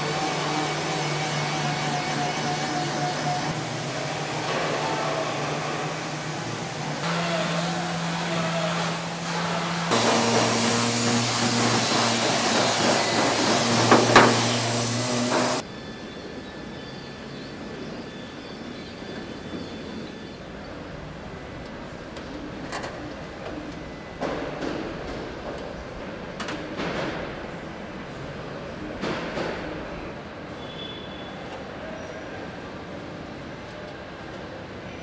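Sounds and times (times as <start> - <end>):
factory machinery hum and hiss: 0.0 - 35.0.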